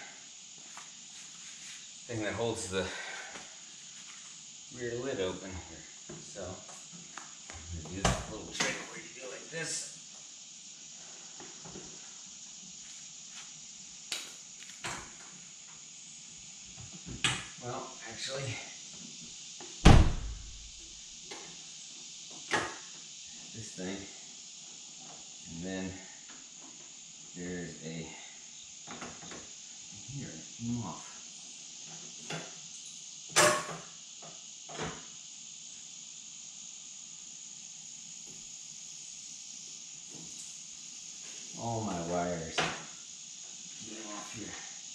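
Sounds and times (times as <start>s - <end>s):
faint steady hiss: 0.0s - 44.9s.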